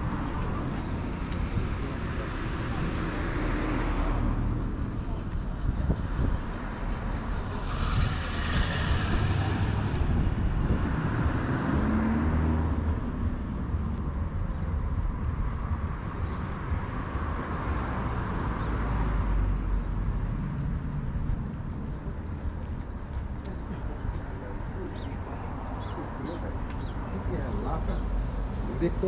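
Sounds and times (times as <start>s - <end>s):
cars passing on road: 0.0s - 29.0s.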